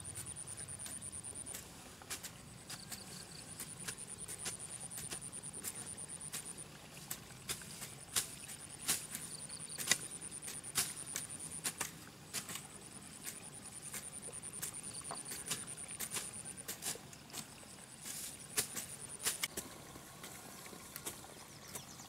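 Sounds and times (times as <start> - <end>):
rake scraping stony soil: 0.0 - 22.0.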